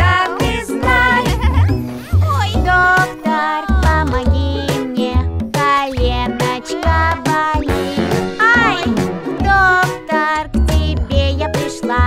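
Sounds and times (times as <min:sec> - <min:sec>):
bouncing bass beat: 0:00.0 - 0:11.5
upbeat cartoon music: 0:00.0 - 0:12.0.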